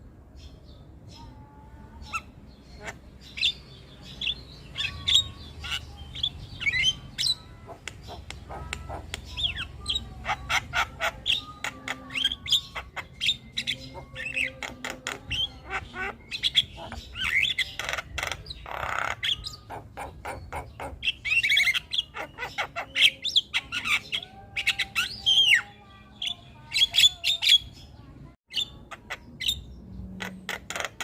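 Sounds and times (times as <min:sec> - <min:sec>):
mynas calling: 0:01.2 - 0:27.7.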